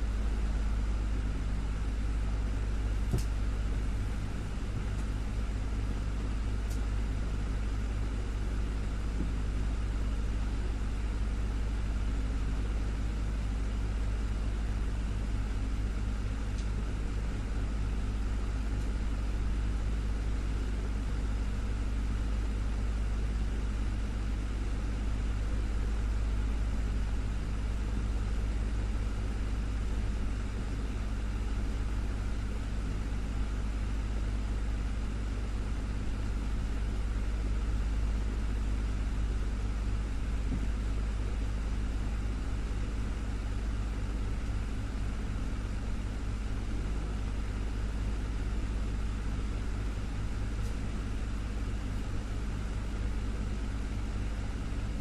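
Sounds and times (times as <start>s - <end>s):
desktop fan whirring: 0.0s - 55.0s.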